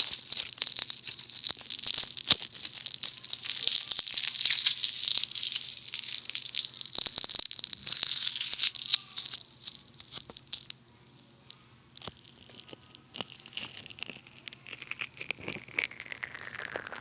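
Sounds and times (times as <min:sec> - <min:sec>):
foam beads crackling and popping: 0:00.0 - 0:17.0.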